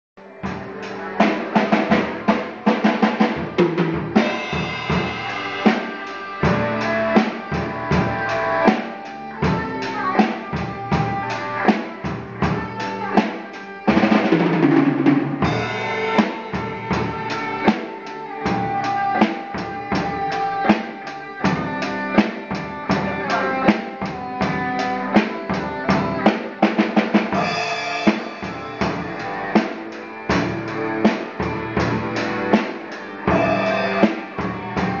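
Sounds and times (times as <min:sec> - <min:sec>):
drum kit rock beat: 0:00.2 - 0:35.0
electric guitar chords: 0:00.2 - 0:35.0.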